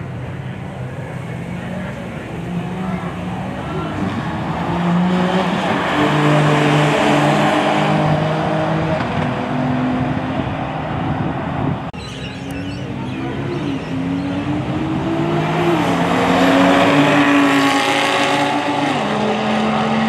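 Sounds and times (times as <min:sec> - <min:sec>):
car engines at full throttle: 0:00.0 - 0:20.0.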